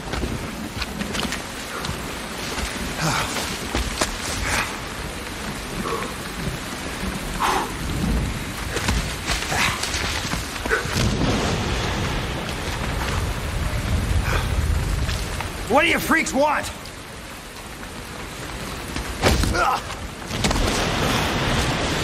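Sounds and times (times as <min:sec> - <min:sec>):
low thunder rumbles: 0:00.0 - 0:22.0
steady rain falling: 0:00.0 - 0:22.0.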